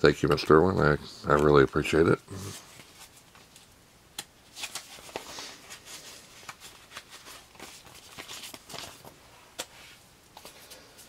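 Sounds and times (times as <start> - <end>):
cards and paper handled: 0.2 - 11.0.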